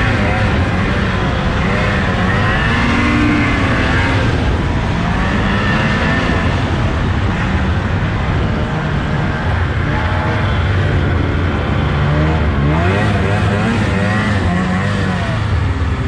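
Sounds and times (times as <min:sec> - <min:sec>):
snowmobile engine running: 0:00.0 - 0:16.0
track and wind noise: 0:00.0 - 0:16.0.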